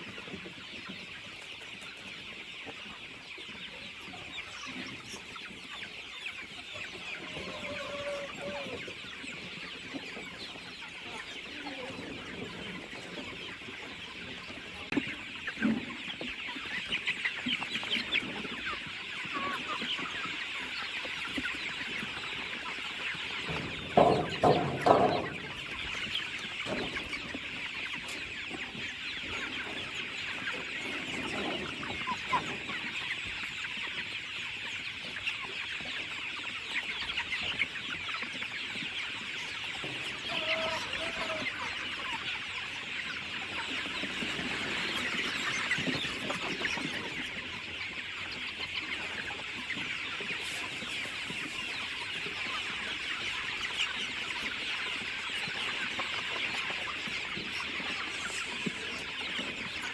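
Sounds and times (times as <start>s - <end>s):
chickens clucking: 0.0s - 59.9s
high chatter of chickens: 0.0s - 59.9s.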